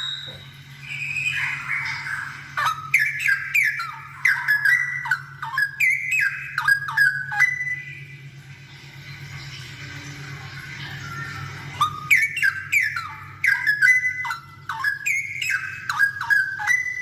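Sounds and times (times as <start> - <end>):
bird singing whistled notes: 0.0 - 8.2, 11.0 - 17.0.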